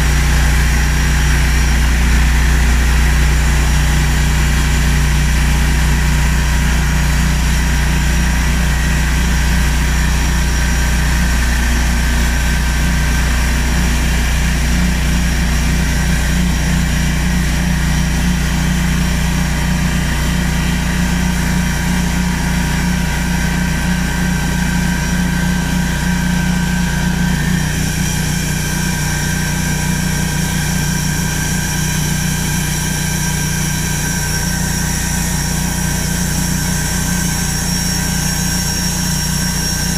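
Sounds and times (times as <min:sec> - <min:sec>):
high machine whine: 0:00.0 - 0:39.9
sawmill machine drone: 0:00.0 - 0:39.9.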